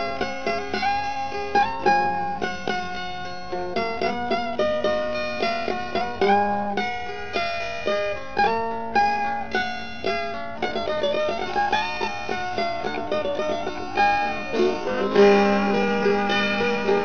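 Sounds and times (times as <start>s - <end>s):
plucked-string melody: 0.0s - 17.0s.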